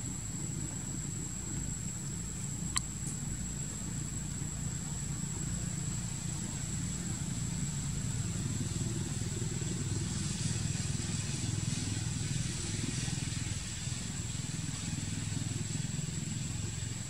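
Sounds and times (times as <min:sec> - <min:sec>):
engine idling rumble: 0:00.0 - 0:17.0
thin high steady whine: 0:00.0 - 0:17.0.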